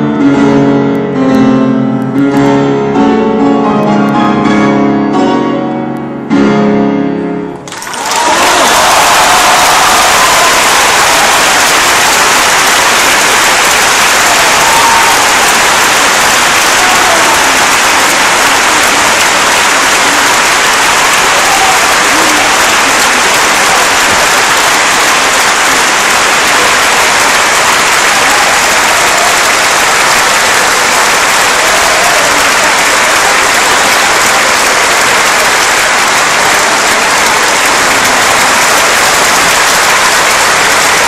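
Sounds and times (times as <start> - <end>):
large audience applauding: 7.6 - 41.0.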